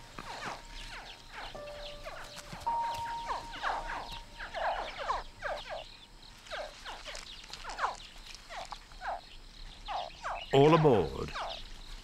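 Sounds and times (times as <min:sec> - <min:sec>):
crocodile hatchlings chirping: 0:00.2 - 0:11.7.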